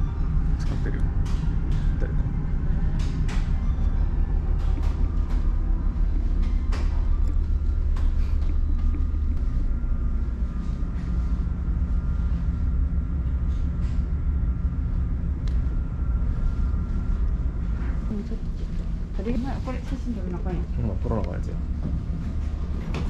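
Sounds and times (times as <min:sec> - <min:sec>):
ship engines rumbling: 0:00.0 - 0:23.0.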